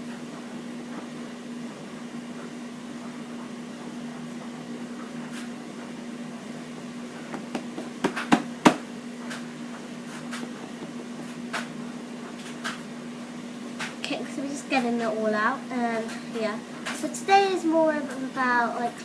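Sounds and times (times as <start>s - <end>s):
washing machine hum: 0.0s - 19.0s.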